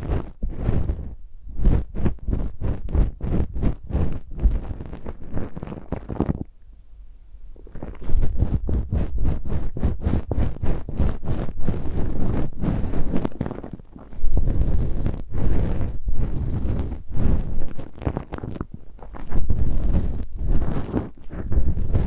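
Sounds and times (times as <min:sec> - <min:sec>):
ear pick scratching microphone: 0:00.0 - 0:06.5, 0:07.4 - 0:22.0.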